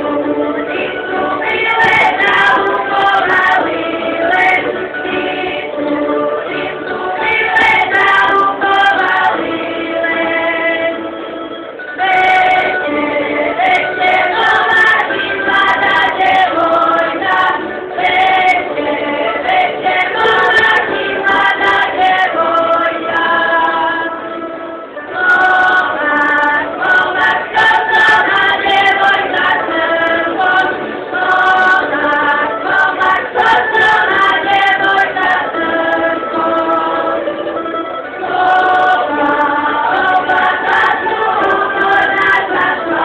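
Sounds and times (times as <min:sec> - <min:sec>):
choir singing folk song in harmony: 0:00.0 - 0:43.0.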